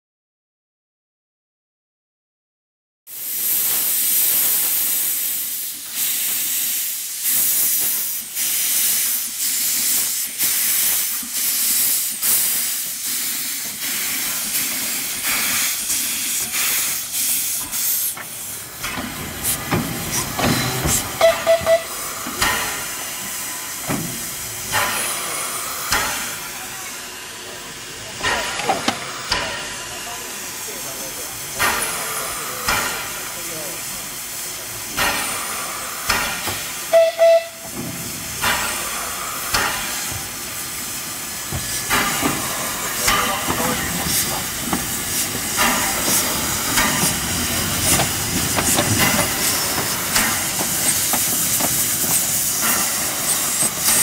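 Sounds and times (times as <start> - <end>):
steam locomotive hissing and chuffing: 3.1 - 54.0.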